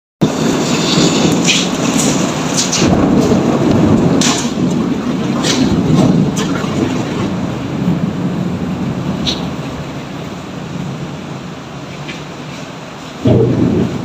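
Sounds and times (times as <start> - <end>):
heavy rain rushing: 0.2 - 14.0
raindrops ticking nearby: 0.2 - 14.0.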